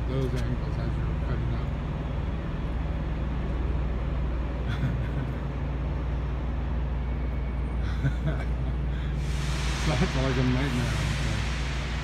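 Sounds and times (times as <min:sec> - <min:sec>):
low hum: 0:00.0 - 0:12.0
machinery rumble: 0:00.0 - 0:12.0.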